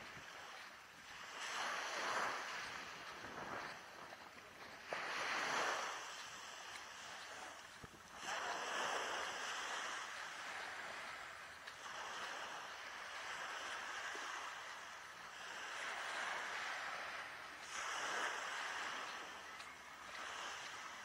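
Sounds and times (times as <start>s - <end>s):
small waves breaking on beach: 0.0s - 21.0s.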